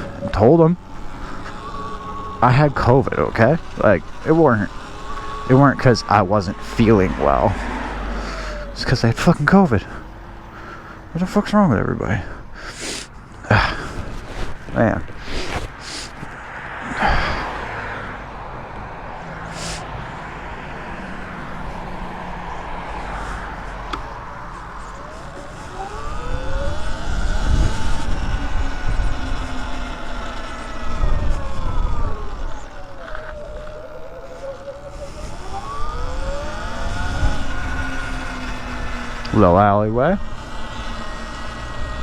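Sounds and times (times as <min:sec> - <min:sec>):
electric dirt bike motor whining: 0:00.0 - 0:42.0
low wind rumble on microphone: 0:00.0 - 0:42.0.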